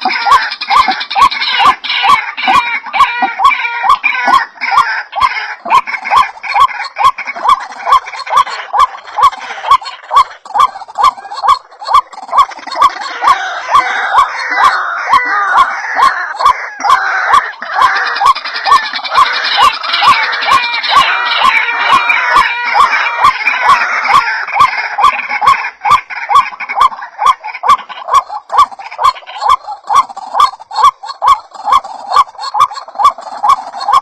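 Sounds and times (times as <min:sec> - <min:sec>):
chorus of overlapping bird calls: 0:00.0 - 0:34.0
waterhen harsh repeated calls: 0:00.0 - 0:34.0.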